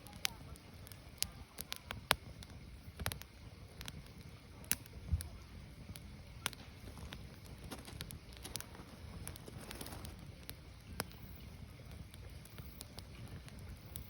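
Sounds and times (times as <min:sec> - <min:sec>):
firewood crackles and pops: 0:00.0 - 0:14.0
low rumble of fire: 0:00.0 - 0:14.0.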